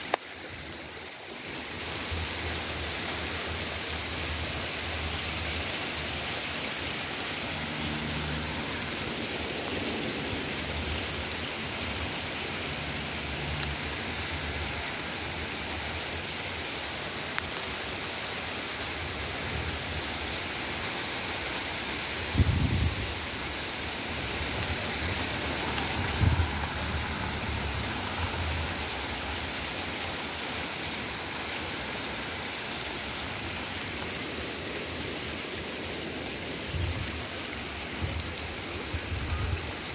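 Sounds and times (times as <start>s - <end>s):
hail and rain on pavement: 0.0s - 39.9s.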